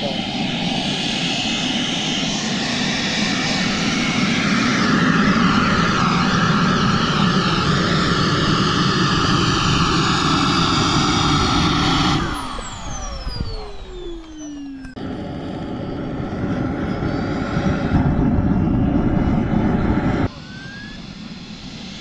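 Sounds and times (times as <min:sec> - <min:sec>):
model jet turbine roaring: 0:00.0 - 0:22.0.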